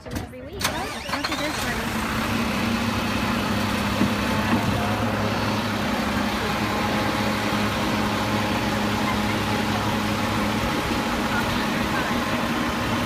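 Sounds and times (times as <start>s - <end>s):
garbage truck engine idling: 0.7s - 13.0s.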